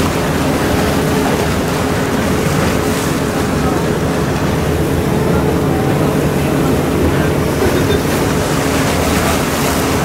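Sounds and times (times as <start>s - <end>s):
motorboat engine running: 0.0s - 10.0s
water rushing past hull: 0.0s - 10.0s.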